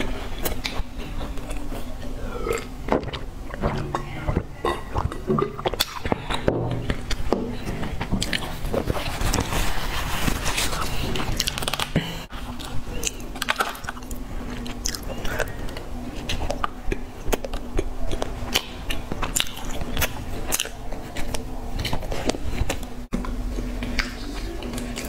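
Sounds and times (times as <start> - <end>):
chewing cake: 0.0 - 25.0.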